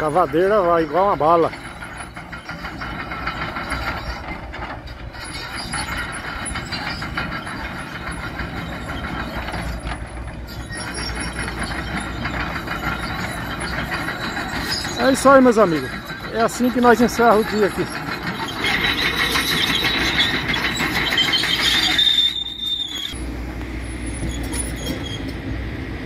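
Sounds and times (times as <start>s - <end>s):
diesel engine running: 0.0s - 26.0s
steel tracks clanking and squeaking: 0.0s - 26.0s.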